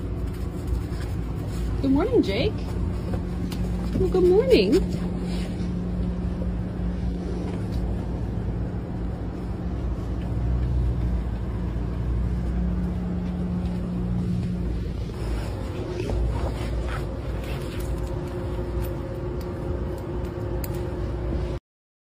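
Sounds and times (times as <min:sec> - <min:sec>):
bus engine rumbling: 0:00.0 - 0:21.6.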